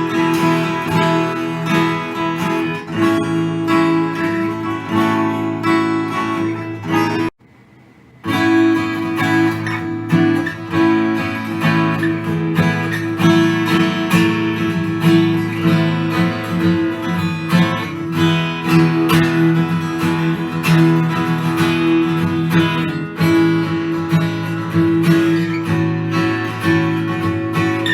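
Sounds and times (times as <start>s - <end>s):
acoustic guitar chords: 0.0s - 27.9s.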